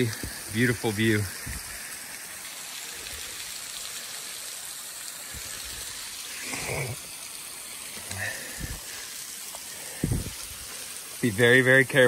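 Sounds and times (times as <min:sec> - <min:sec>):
waterfall splashing over rock: 0:00.0 - 0:12.0.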